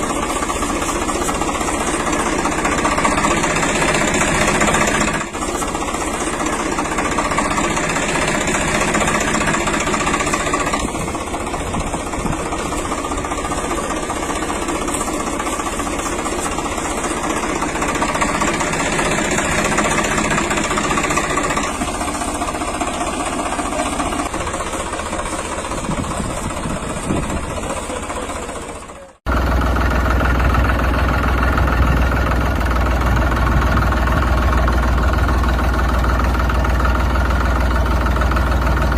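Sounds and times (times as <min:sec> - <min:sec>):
deep engine sound: 0:00.0 - 0:38.9
tractor engine running: 0:00.0 - 0:38.9.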